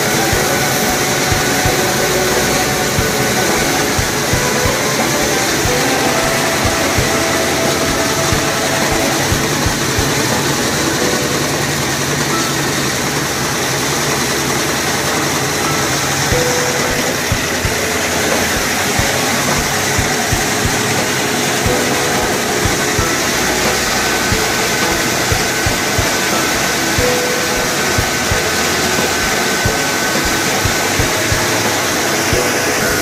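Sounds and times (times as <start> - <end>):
rice mill machinery din: 0.0 - 33.0.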